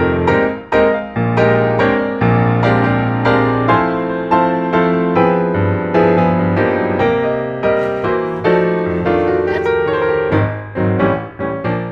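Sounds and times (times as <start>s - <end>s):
slow piano music: 0.0s - 11.9s.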